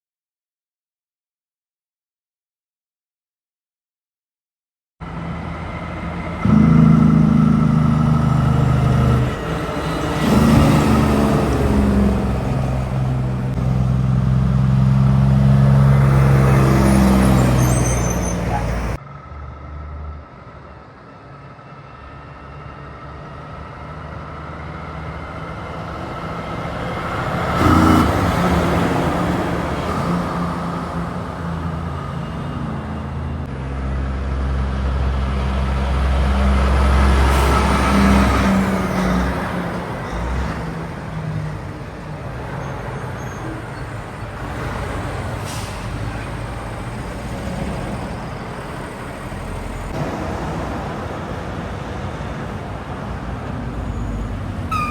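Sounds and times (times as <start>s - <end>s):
heavy trucks passing: 5.0s - 54.9s
steady traffic noise: 5.0s - 54.9s.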